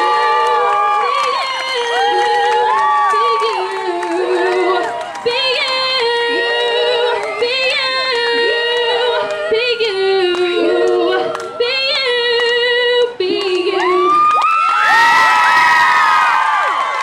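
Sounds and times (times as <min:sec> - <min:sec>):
female group singing a cappella: 0:00.0 - 0:14.2.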